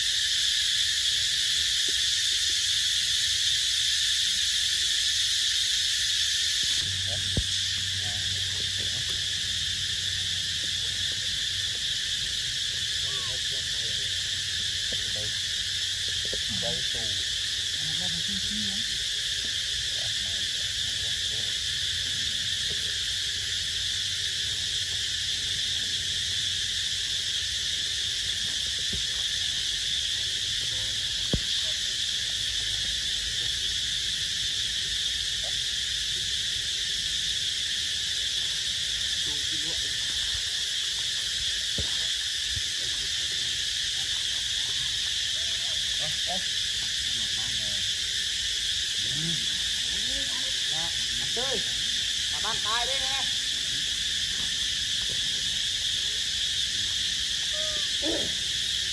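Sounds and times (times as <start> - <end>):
insect chorus drone: 0.0 - 58.9.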